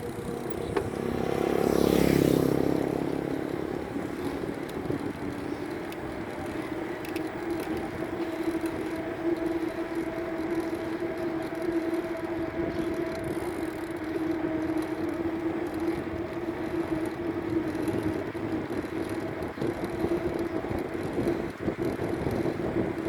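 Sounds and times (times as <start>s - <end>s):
bicycle tyres rushing on road: 0.0s - 23.0s
constant hum: 0.0s - 23.0s.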